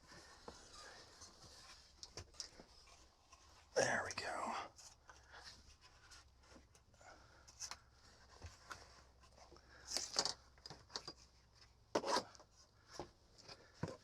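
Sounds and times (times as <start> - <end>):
objects rustling and scraping: 0.0 - 3.8, 4.7 - 14.0.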